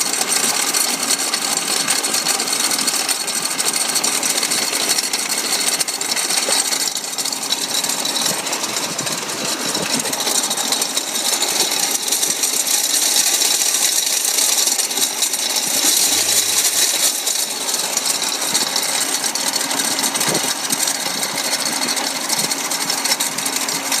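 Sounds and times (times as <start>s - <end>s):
compressor rattling grind: 0.0s - 24.0s
car engine running: 0.1s - 24.0s.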